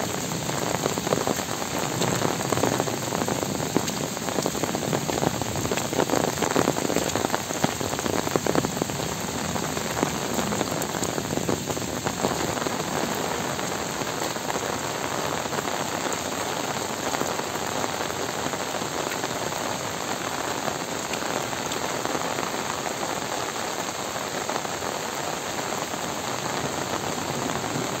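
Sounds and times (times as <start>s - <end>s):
heavy rain on trees and ground: 0.0s - 28.0s.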